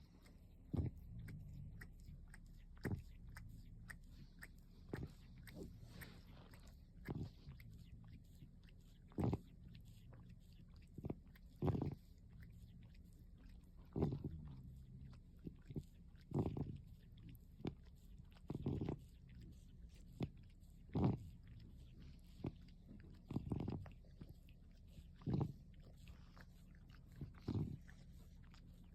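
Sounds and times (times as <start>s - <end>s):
cat breathing rasp: 0.0s - 28.9s
cat licking and nibbling: 0.0s - 28.9s.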